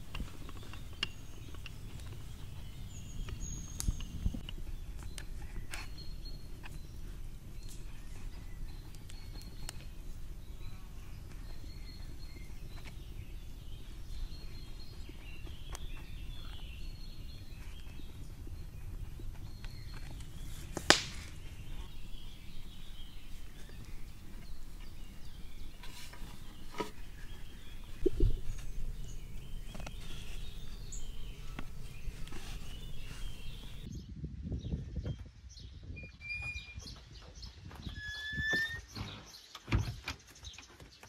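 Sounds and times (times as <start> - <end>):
birds chirping: 0.0 - 34.1
steady low rumble: 0.0 - 34.4.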